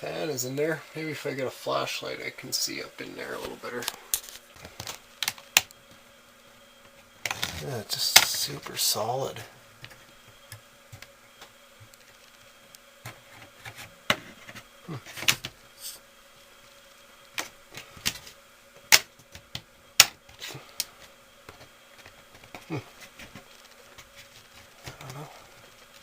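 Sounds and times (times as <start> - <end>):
faint buzzing hum: 0.0 - 26.0.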